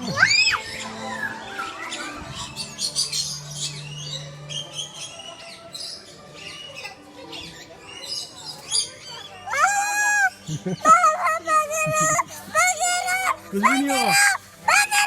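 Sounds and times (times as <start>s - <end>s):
small birds chirping and squawking: 0.0s - 15.0s.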